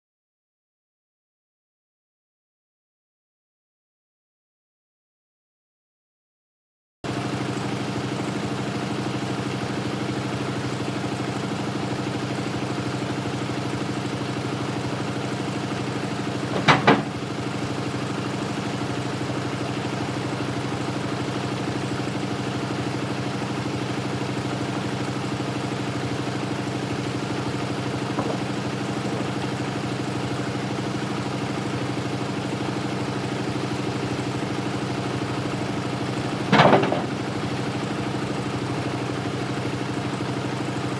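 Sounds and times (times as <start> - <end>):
gasoline engine running: 7.1 - 40.9.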